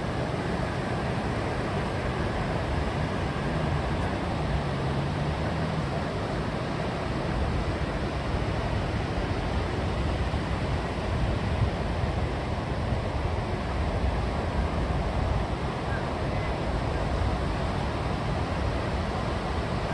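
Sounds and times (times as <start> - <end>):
sea surf: 0.0 - 19.9
wind: 0.0 - 19.9.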